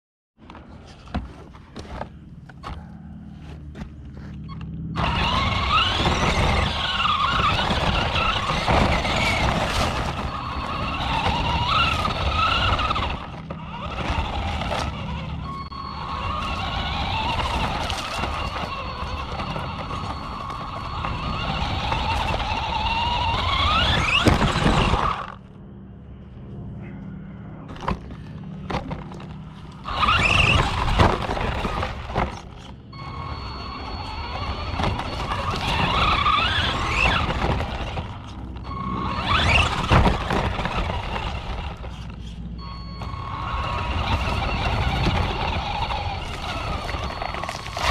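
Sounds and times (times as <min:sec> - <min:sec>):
electric motor and gears whining: 0:00.4 - 0:47.9
rumble of tyres and chassis: 0:00.4 - 0:47.9.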